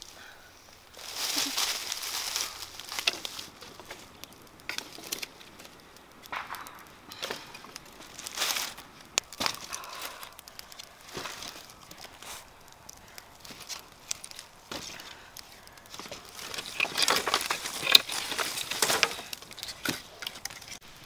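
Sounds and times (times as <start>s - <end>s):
sticks and leaves crackling: 0.0s - 21.0s.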